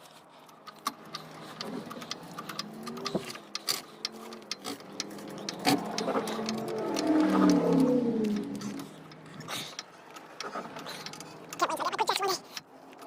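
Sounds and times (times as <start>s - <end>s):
light clicks and knocks: 0.0s - 13.0s
vehicle engine: 0.0s - 13.0s.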